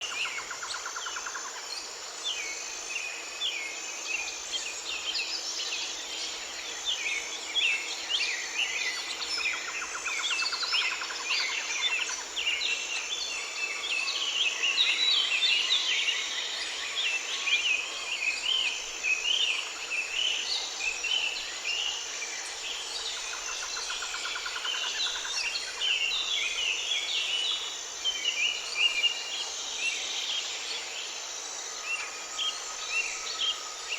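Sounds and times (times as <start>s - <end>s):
high insect drone: 0.0s - 33.9s.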